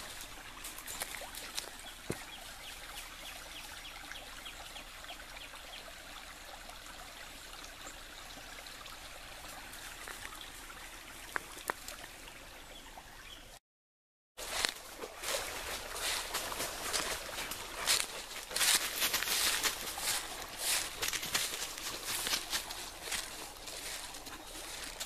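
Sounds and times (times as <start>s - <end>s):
creek trickling over rocks: 0.0s - 13.6s, 14.4s - 25.0s.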